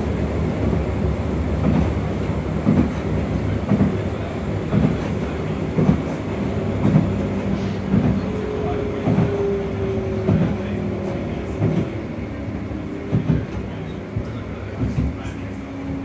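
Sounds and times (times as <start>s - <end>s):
tram motor hum: 0.0s - 16.0s
wheels rumbling on rails: 0.0s - 16.0s.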